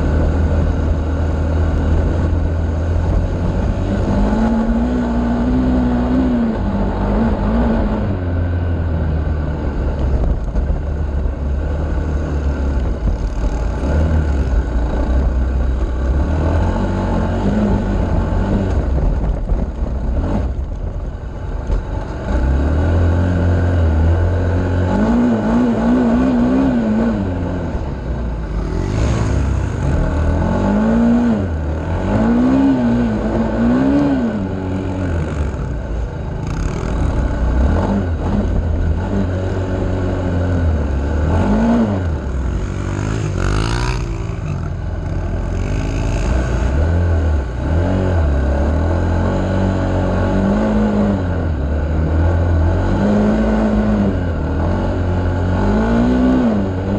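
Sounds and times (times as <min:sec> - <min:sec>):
vehicle engine revving: 0:00.0 - 0:56.9.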